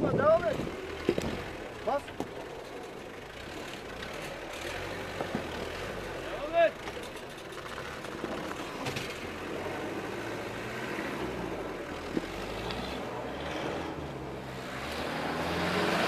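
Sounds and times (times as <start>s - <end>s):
off-road engine running: 0.0s - 16.0s.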